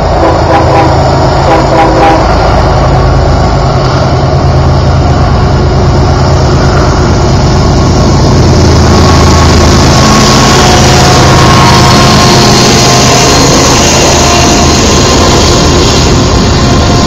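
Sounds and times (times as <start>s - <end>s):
locomotive engine drone: 0.0s - 17.0s
rushing noise: 0.0s - 17.0s.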